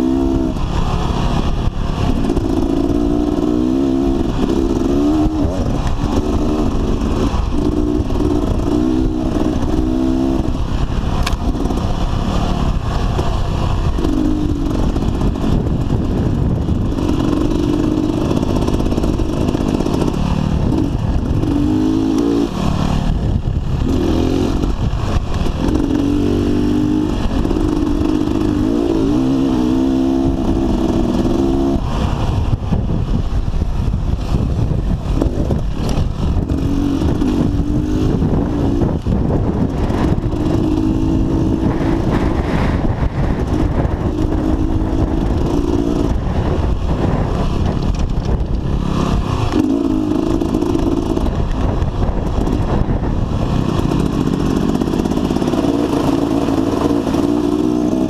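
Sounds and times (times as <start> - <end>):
dirt bike engine revving: 0.0 - 58.0
low rumble: 0.0 - 58.0.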